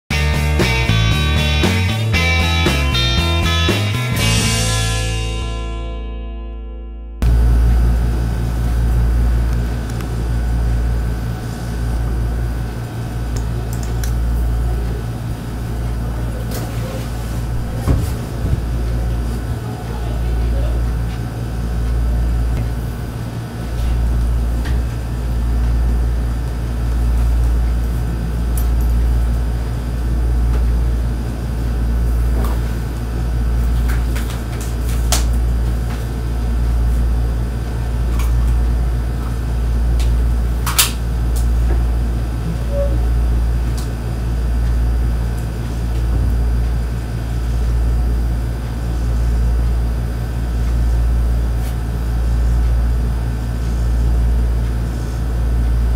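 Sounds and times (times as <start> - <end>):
low mechanical hum: 7.2 - 55.9.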